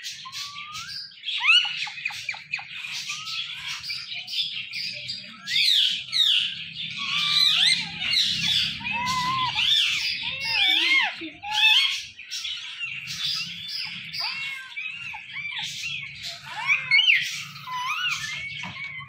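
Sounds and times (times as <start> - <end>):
parakeet chirping and squawking: 0.0 - 19.0.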